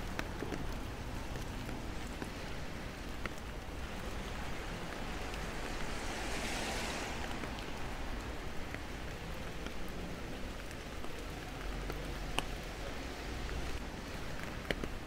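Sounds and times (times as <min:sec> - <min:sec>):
car tyres hissing on wet road: 0:00.0 - 0:15.0
rain falling on pavement: 0:00.0 - 0:15.0.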